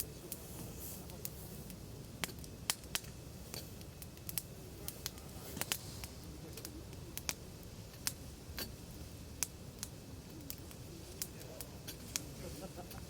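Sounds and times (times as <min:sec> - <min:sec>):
campfire crackling and popping: 0:00.0 - 0:13.0
flame rushing: 0:00.0 - 0:13.0.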